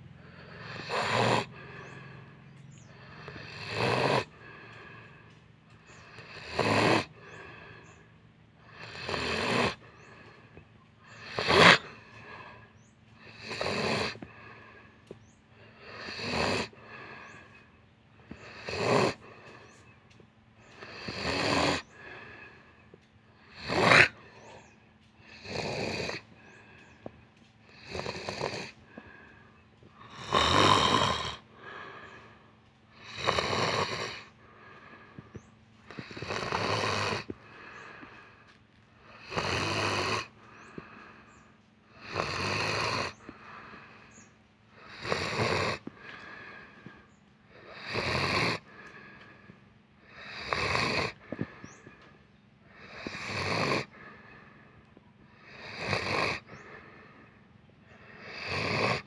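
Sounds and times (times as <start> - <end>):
person snoring: 0.1 - 8.0, 8.6 - 20.0, 20.7 - 59.0.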